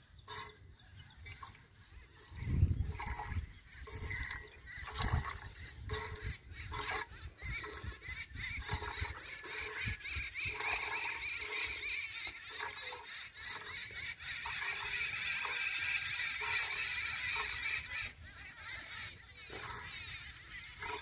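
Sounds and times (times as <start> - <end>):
milk squirting into a pail: 0.2 - 0.6, 1.2 - 17.6, 19.4 - 21.0.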